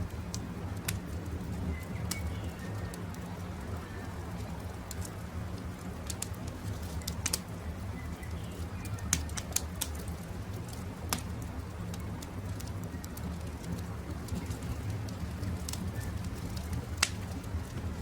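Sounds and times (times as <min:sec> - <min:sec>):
campfire crackling: 0:00.0 - 0:18.0
sharp pops of fire: 0:00.3 - 0:03.3, 0:06.0 - 0:18.0.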